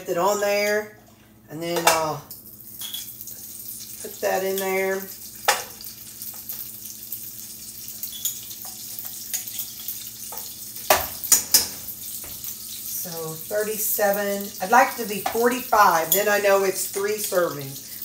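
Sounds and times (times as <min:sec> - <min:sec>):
ghee sizzling in skillet: 0:02.3 - 0:18.0.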